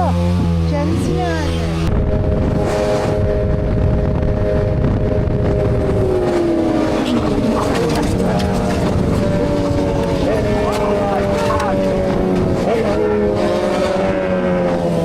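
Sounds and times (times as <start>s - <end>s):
motorcycle engine: 0.0s - 15.0s
heavy wind rush: 0.5s - 15.0s.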